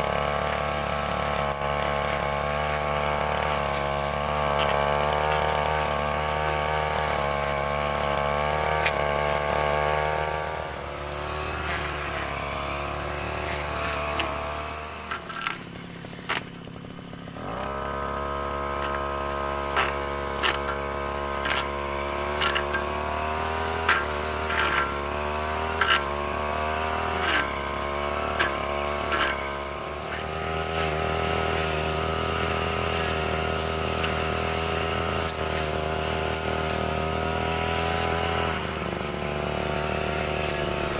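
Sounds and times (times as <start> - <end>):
brushcutter engine running: 0.0 - 40.9.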